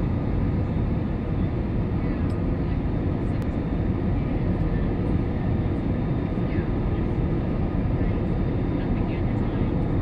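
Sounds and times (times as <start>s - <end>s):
airliner engine rumble: 0.0s - 10.0s.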